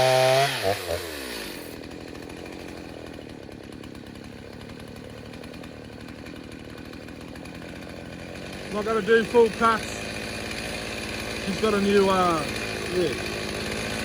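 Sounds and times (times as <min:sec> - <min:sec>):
chainsaw revving down to idle: 0:00.0 - 0:14.0.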